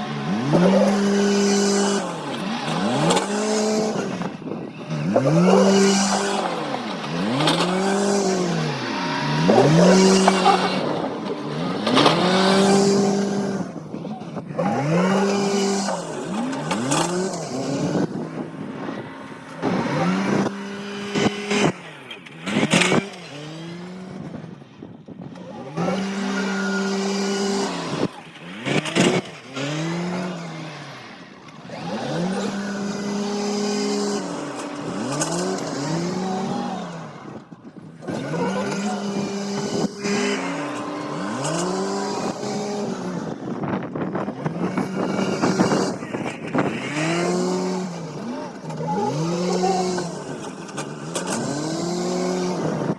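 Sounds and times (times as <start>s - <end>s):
diesel engine revving: 0.0s - 52.9s.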